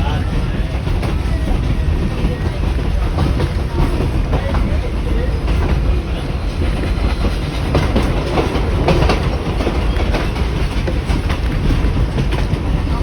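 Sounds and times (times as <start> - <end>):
train carriage rumble: 0.0 - 13.0
wheels clacking over rail joints: 0.0 - 13.0.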